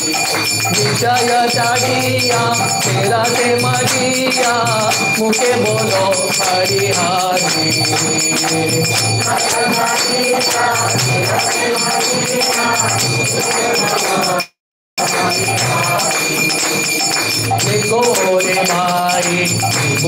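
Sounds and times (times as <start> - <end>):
devotional singing: 0.0 - 20.0
metallic jingling percussion: 0.0 - 20.0.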